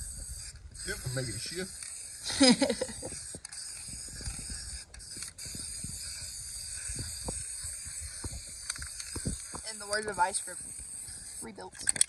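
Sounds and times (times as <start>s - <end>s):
spray can ball rattling: 1.8s - 12.0s.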